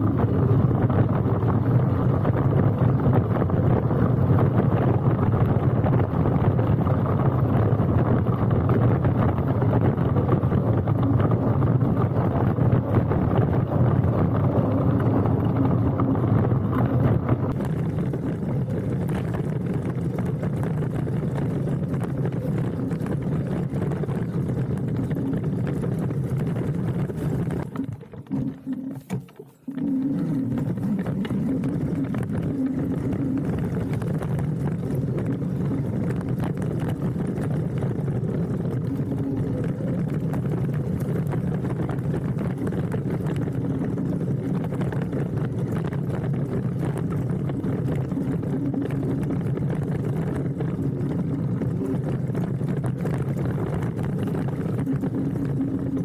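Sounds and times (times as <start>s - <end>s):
tyres rumbling on loose rock: 0.0s - 56.0s
wind on microphone: 0.0s - 56.0s.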